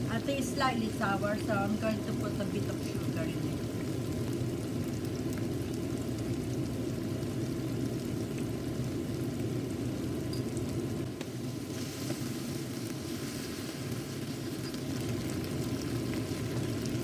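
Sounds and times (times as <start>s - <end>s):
sauce sizzling in a frying pan: 0.0s - 17.0s
steady low hum: 0.0s - 17.0s.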